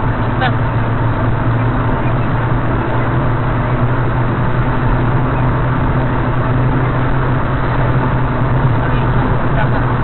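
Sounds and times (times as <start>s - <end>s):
car engine and tyre drone: 0.0s - 10.0s.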